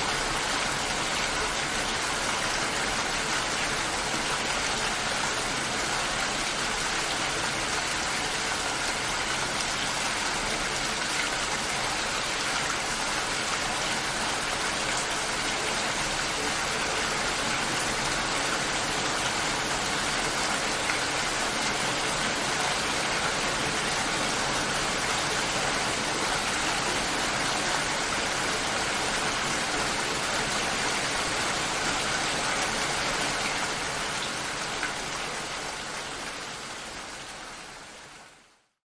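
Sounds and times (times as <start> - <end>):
steady rainfall: 0.0 - 38.8.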